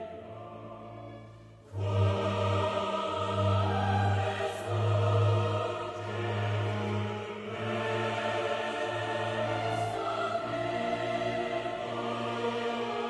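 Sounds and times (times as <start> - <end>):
music of long held notes: 0.0 - 13.0.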